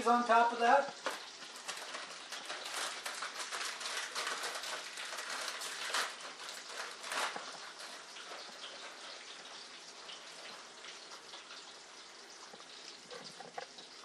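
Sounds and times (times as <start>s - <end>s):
bacon sizzling in a pan: 0.0s - 14.0s.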